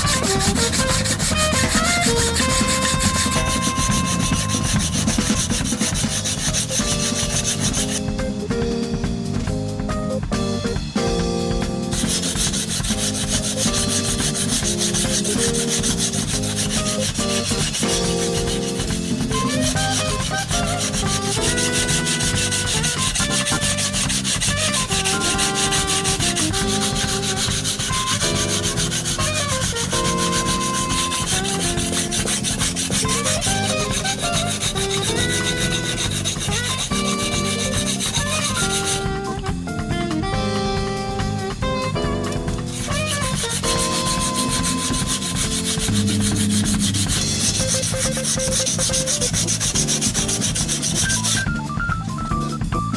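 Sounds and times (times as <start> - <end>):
knife scraping on whetstone: 0.0 - 8.1, 11.9 - 39.0, 42.7 - 51.5
background music: 0.0 - 52.9.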